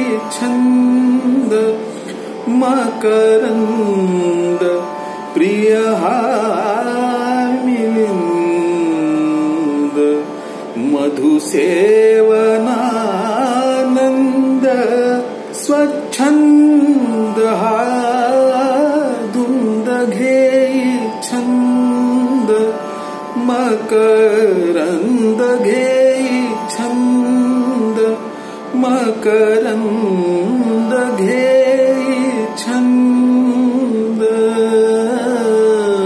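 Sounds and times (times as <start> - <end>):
man singing classical style: 0.0 - 36.0.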